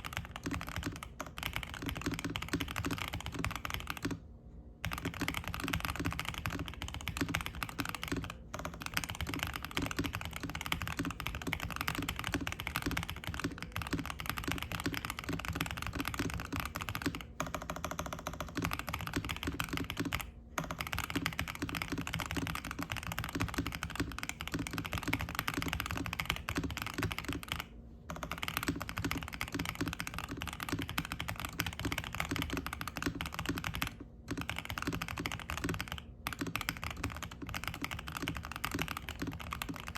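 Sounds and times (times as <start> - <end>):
fast mechanical keyboard typing: 0.0 - 4.2, 4.8 - 39.9.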